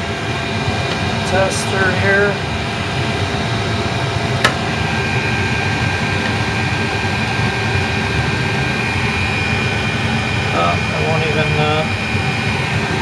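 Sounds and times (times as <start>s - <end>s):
faint high whine: 0.0s - 13.0s
heater burner and blower rumble: 0.0s - 13.0s.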